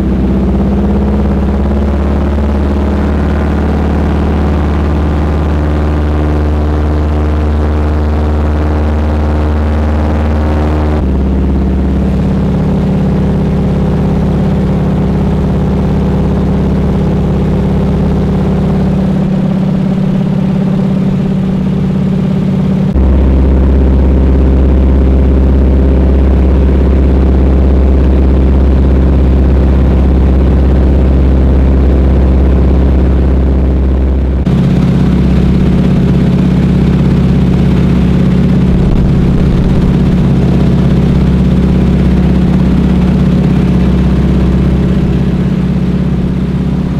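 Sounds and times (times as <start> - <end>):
plane engine and propeller droning: 0.0 - 46.9.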